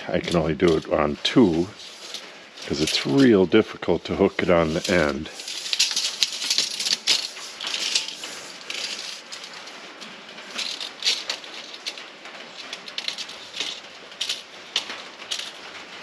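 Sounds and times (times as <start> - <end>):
tape measure blade rattling: 0.2 - 3.5, 4.2 - 16.0.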